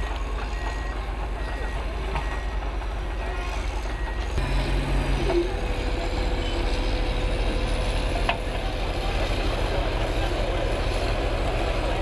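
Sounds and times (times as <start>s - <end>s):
heavy machinery engines running: 0.0s - 12.0s.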